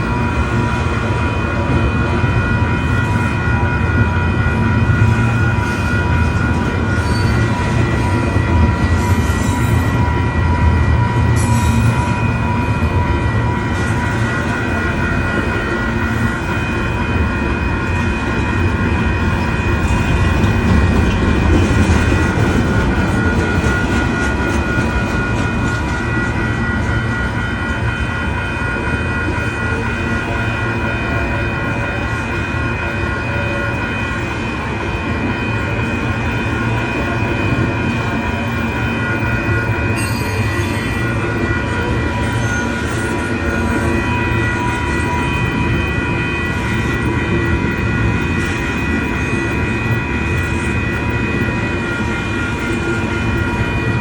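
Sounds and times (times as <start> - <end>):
crossing bell ringing: 0.0 - 54.0
train rumbling: 0.0 - 54.0.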